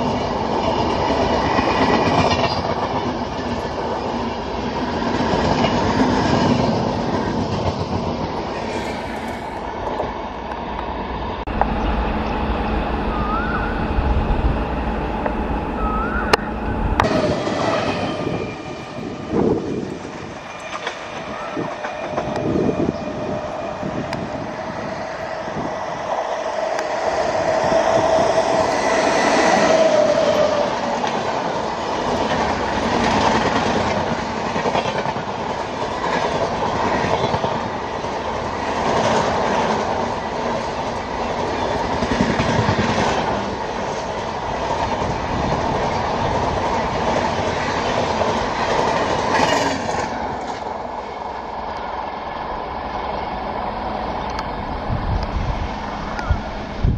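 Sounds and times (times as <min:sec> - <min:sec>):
rush of passing train coaches: 0:00.0 - 0:56.9.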